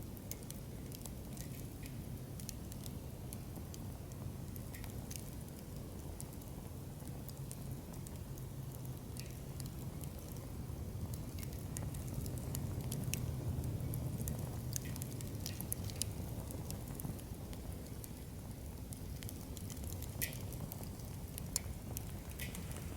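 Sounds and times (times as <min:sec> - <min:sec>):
campfire crackling: 0:00.2 - 0:22.9.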